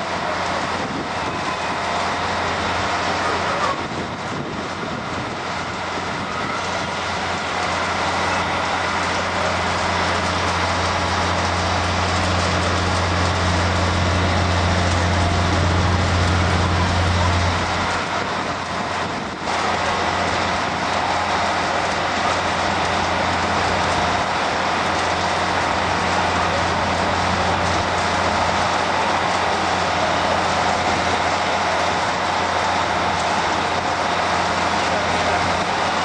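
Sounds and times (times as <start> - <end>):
low mechanical hum and rumble: 0.0 - 36.0
outdoor noise: 0.0 - 36.0.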